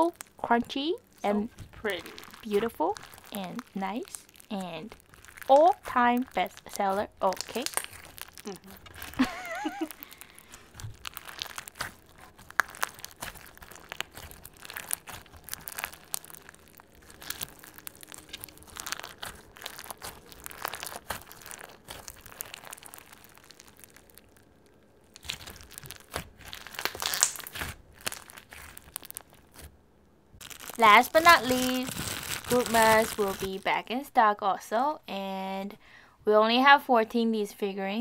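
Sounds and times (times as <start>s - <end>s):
crunchy slime squeezed by hand: 1.0s - 29.7s, 30.4s - 33.6s.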